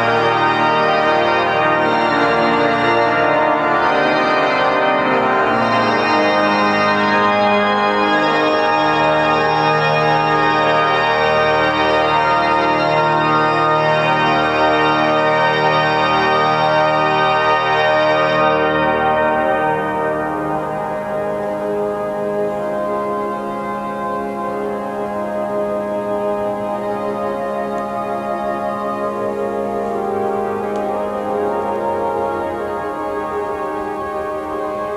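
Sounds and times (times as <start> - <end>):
pipe organ playing chords: 0.0 - 34.9.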